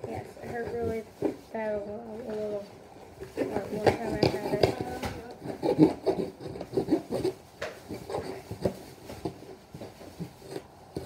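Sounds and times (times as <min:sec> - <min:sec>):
knife scraping cardboard: 0:00.0 - 0:01.7, 0:03.2 - 0:11.0.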